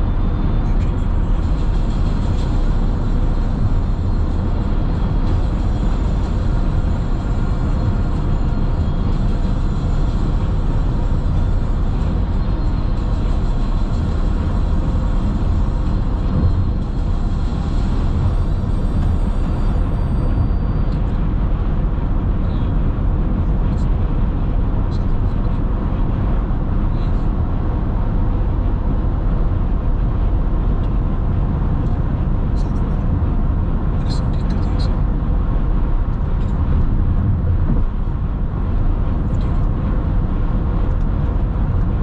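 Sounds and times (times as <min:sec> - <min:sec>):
car cabin road noise: 0:00.0 - 0:42.0.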